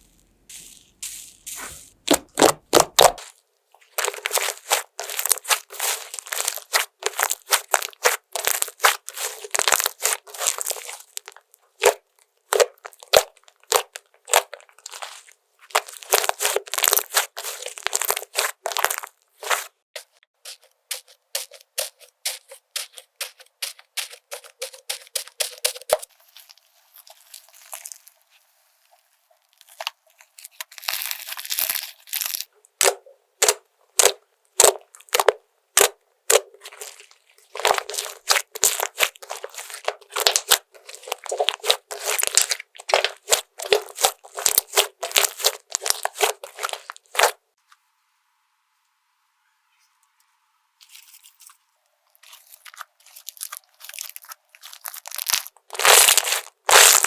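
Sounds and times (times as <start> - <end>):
slime crackling and popping: 0.5 - 19.7, 20.9 - 47.4, 52.2 - 57.0.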